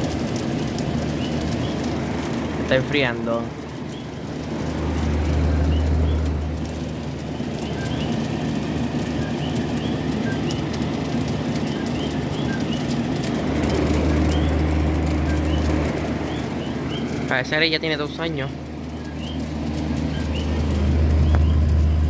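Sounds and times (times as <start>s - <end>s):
air conditioner humming: 0.0s - 22.0s
small birds chirping: 0.0s - 22.0s.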